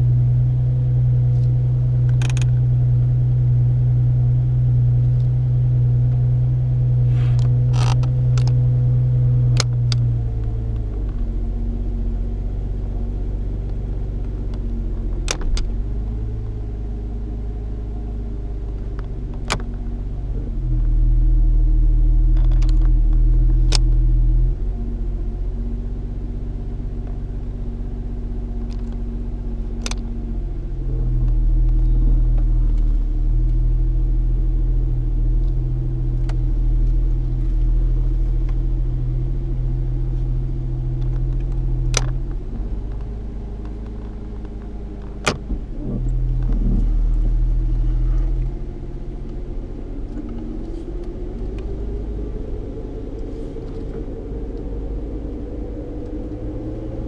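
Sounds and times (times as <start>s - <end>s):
car engine hum: 0.0s - 57.0s
road rumble: 0.0s - 57.0s.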